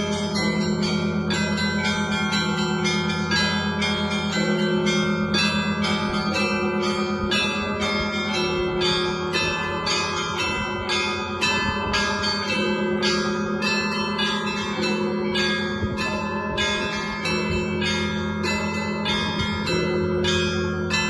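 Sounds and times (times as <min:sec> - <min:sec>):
low bells humming: 0:00.0 - 0:21.0
small bells striking quickly: 0:00.0 - 0:21.0.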